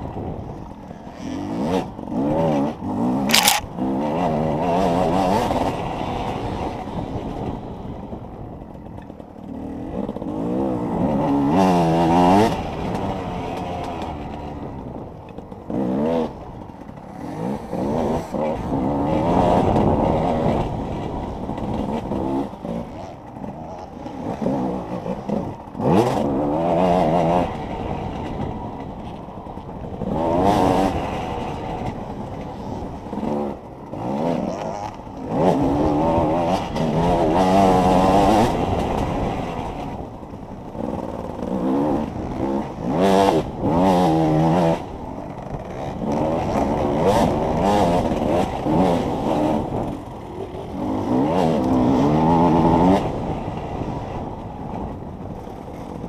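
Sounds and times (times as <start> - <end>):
motorcycle engine revving: 0.0 - 8.4, 9.3 - 56.0.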